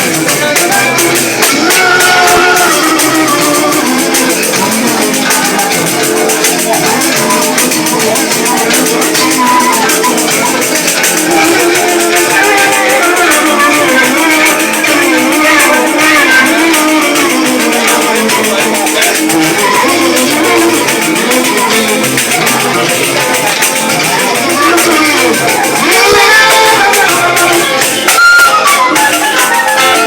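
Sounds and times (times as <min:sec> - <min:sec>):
fife playing quick melody: 0:00.0 - 0:30.0
percussion: 0:00.0 - 0:30.0
shaker rhythm: 0:00.0 - 0:30.0.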